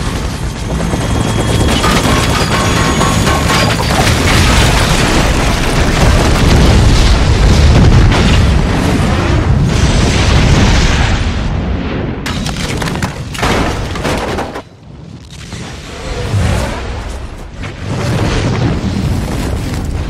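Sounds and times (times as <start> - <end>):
explosions and fire rumbling: 0.0 - 20.0.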